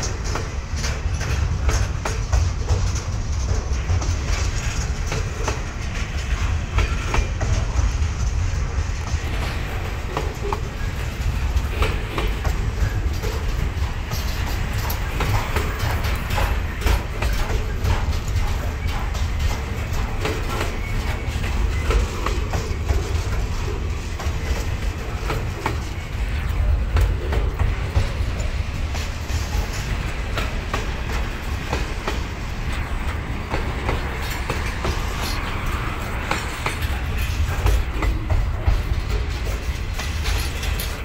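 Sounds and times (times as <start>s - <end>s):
freight train rumbling past: 0.0s - 41.0s
wheels clicking over rail joints: 0.0s - 41.0s.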